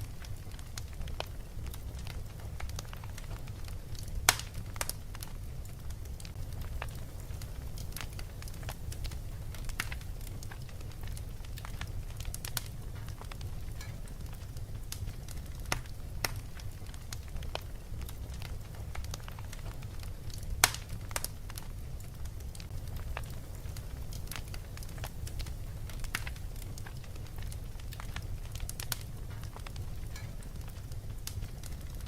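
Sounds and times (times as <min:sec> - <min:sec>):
fireplace crackling: 0:00.0 - 0:32.0
sharp pops and snaps: 0:00.2 - 0:32.0.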